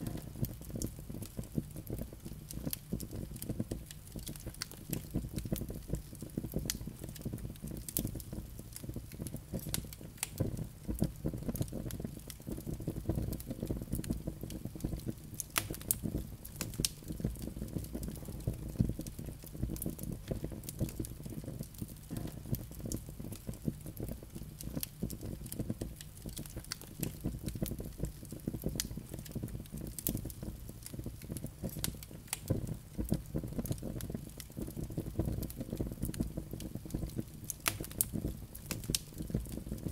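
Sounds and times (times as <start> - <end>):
logs crackling and popping: 0.0 - 39.9
low roar of flames: 0.0 - 39.9.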